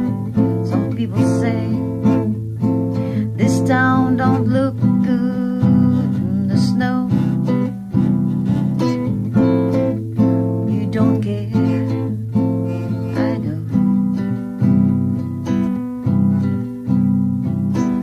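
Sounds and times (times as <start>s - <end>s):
strummed acoustic guitar music: 0.0s - 18.0s.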